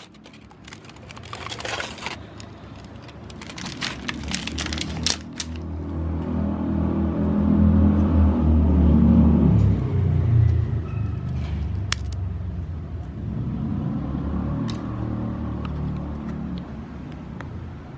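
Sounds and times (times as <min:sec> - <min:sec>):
engine humming: 0:00.0 - 0:17.6.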